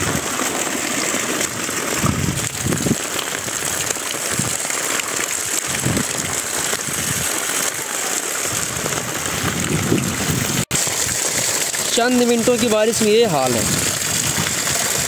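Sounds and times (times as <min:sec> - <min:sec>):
heavy rain on floodwater: 0:00.0 - 0:15.0.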